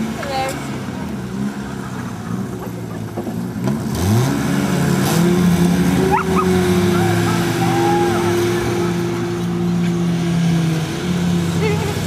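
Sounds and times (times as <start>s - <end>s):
car engines idling and revving: 0.0s - 12.0s.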